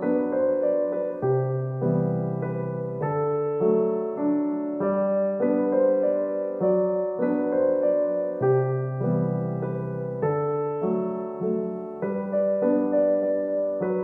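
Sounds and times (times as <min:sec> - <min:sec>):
gentle solo piano piece: 0:00.0 - 0:14.0.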